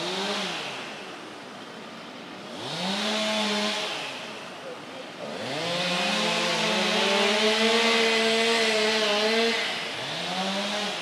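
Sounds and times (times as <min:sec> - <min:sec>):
chainsaw revving: 0:00.0 - 0:01.1, 0:02.4 - 0:04.4, 0:05.2 - 0:11.0.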